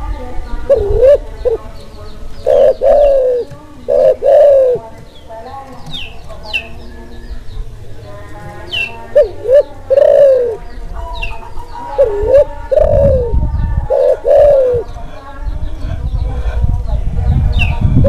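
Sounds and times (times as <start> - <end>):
dove cooing: 0.0 - 15.2
small birds chirping: 0.0 - 18.0.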